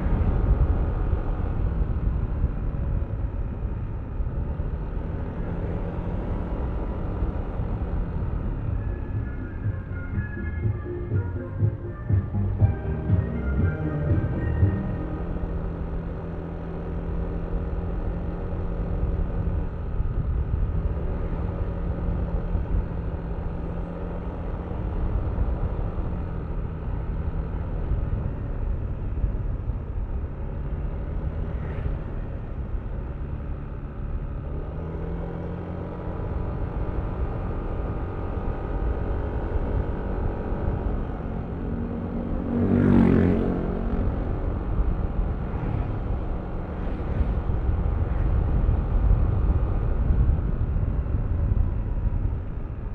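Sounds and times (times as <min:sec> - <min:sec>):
passing vehicle: 0:00.0 - 0:52.9
wind rumble on microphone: 0:00.0 - 0:52.9.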